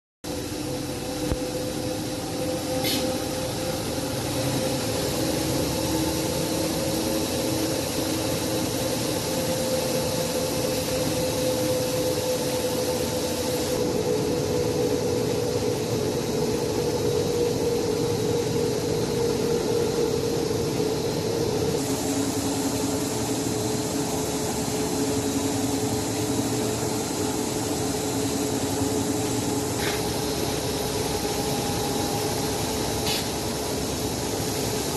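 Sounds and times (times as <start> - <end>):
machine whirring with held tone: 0.3 - 34.9.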